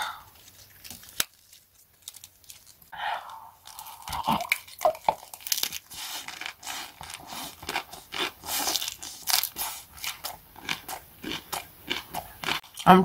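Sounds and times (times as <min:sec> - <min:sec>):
person chewing crunchy lettuce: 0:00.0 - 0:13.0.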